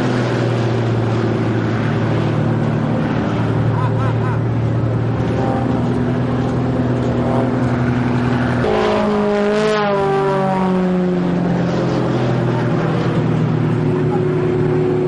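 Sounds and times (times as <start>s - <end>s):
propeller plane engine droning past: 0.0s - 15.0s.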